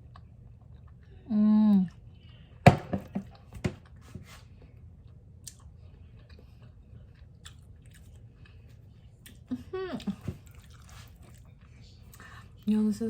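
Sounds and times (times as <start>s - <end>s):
person chewing food: 0.0s - 1.2s, 3.3s - 12.7s.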